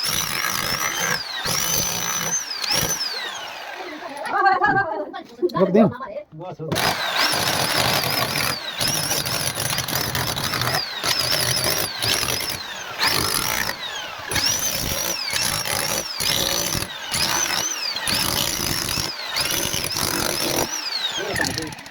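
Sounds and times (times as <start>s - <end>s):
power cutter motor whine: 0.0s - 4.4s, 6.7s - 21.9s.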